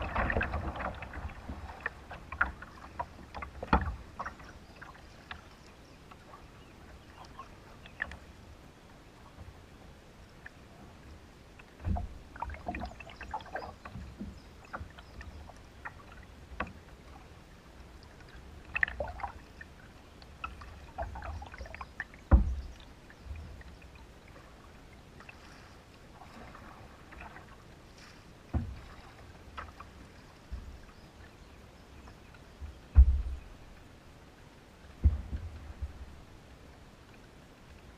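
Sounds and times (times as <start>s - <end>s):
paddle splashing in water: 0.0s - 8.4s, 10.4s - 33.8s.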